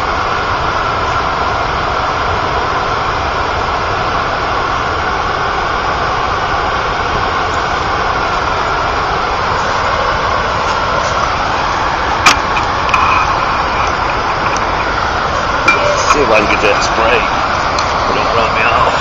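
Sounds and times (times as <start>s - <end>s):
water rushing over spillway: 0.0s - 19.0s.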